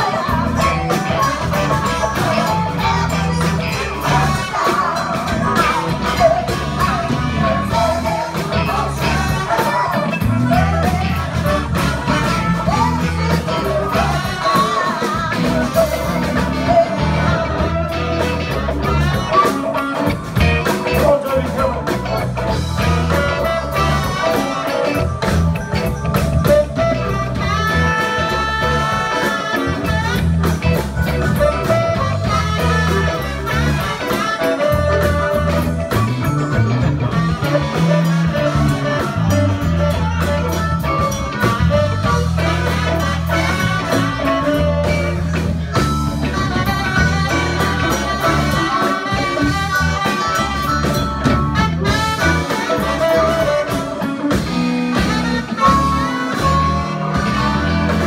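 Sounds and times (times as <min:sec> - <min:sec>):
band music: 0:00.0 - 0:58.0.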